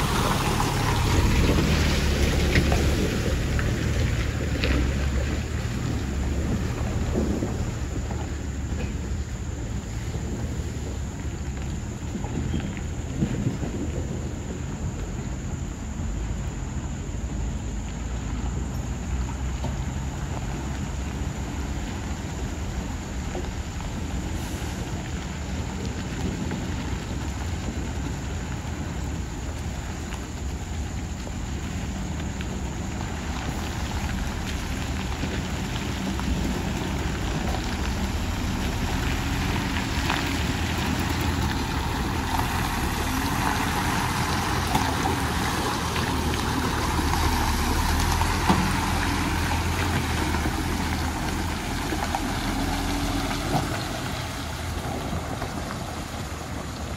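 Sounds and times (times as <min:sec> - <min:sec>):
lorry diesel engine rumble: 0:00.0 - 0:56.9.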